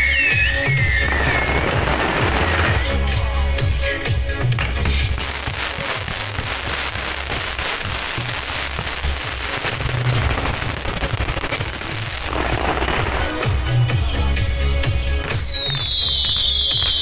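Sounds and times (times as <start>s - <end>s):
background music beat: 0.0s - 17.0s
firecrackers crackling: 0.0s - 17.0s.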